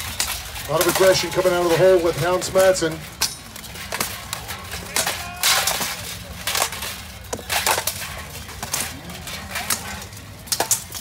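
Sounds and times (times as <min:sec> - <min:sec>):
swords striking armour and shields: 0:00.0 - 0:11.0.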